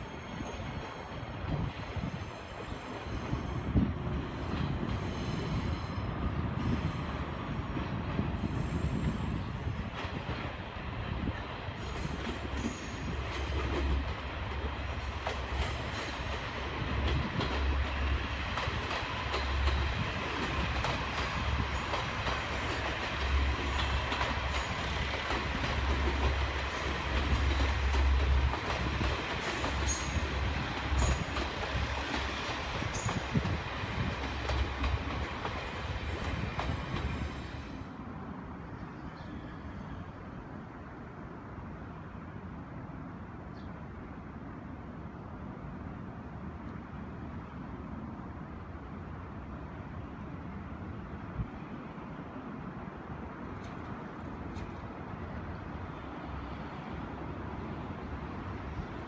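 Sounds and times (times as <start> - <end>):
diesel train running past: 0.0 - 59.0.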